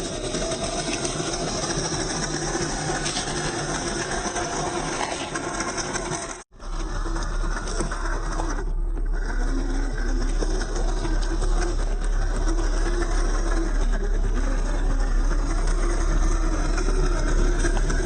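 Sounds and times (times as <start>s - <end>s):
electric motor and gears whirring: 0.0s - 18.0s.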